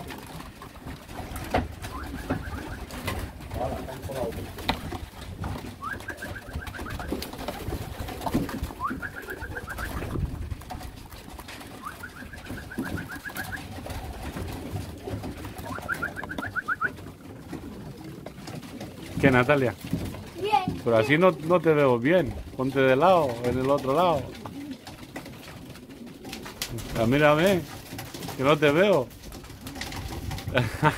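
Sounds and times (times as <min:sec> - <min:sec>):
pigeons cooing: 0:00.0 - 0:30.9.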